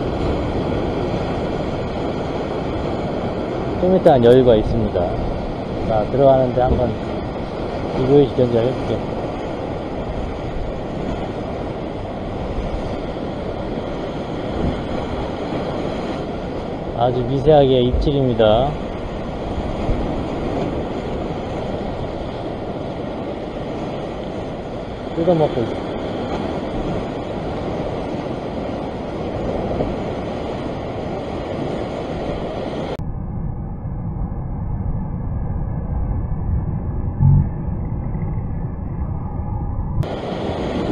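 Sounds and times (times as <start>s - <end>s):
sea waves breaking on rocks: 0.0s - 33.0s, 40.0s - 40.9s
wind on microphone: 0.0s - 40.9s.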